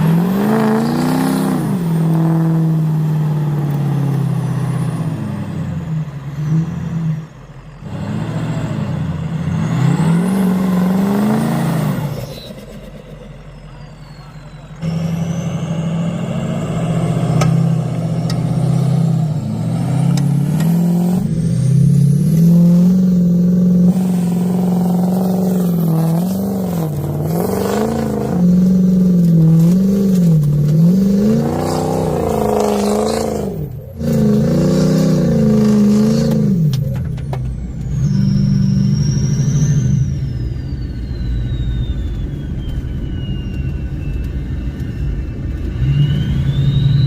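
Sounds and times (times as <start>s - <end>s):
diesel truck engine revving: 0.0s - 47.0s.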